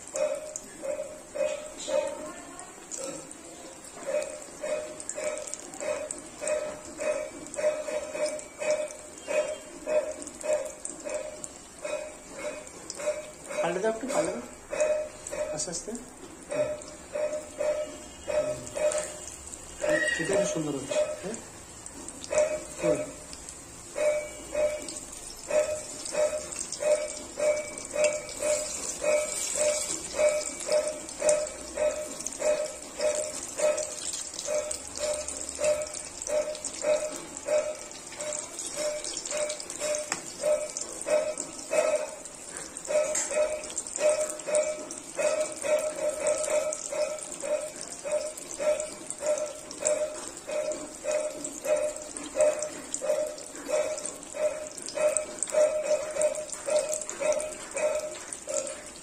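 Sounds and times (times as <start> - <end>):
oil sizzling in a wok: 0.0 - 59.0.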